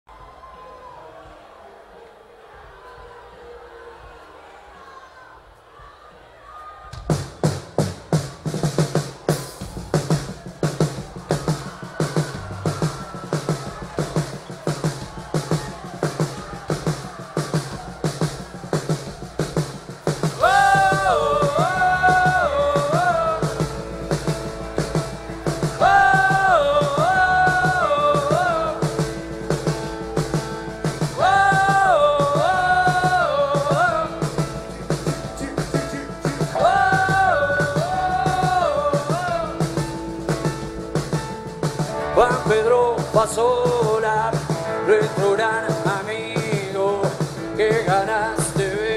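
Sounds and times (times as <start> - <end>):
drum kit beat: 7.0 - 48.9
bass guitar: 7.2 - 48.9
lead melody: 9.2 - 48.9.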